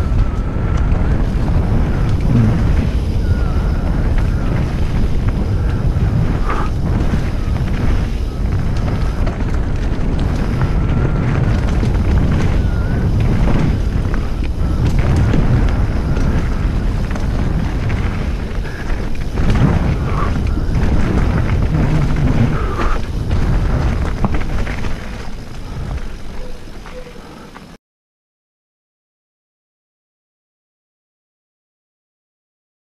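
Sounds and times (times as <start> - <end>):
tyres rumbling on dirt trail: 0.0 - 27.8
wind buffeting microphone: 0.0 - 27.8
bike knocks and rattles: 1.0 - 27.7.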